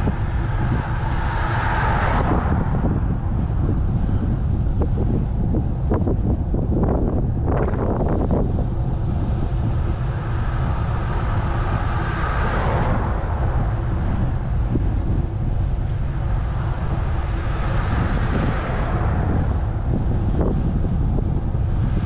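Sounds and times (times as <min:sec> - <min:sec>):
tyre hiss of passing cars: 0:00.0 - 0:04.8, 0:07.5 - 0:21.0
wind rumbling on microphone: 0:00.0 - 0:22.0.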